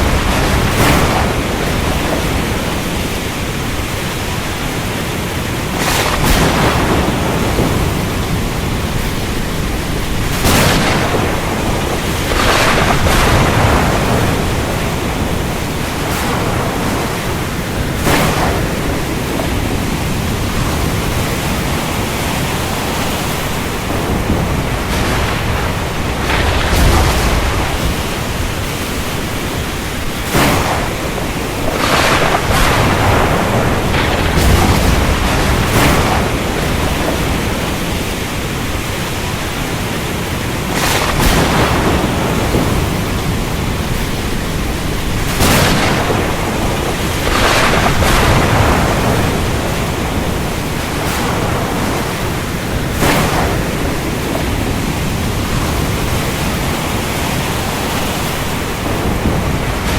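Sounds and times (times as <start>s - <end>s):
thunder: 0.0s - 5.0s, 5.6s - 59.9s
heavy rain hiss: 0.0s - 59.9s.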